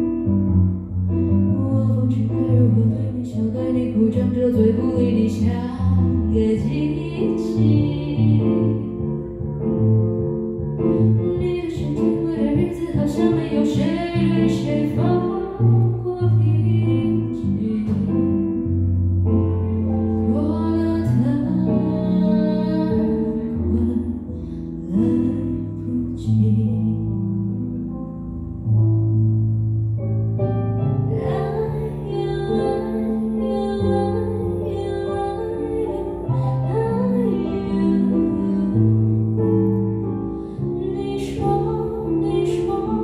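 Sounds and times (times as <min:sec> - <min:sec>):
sustained low bass notes: 0:00.0 - 0:43.0.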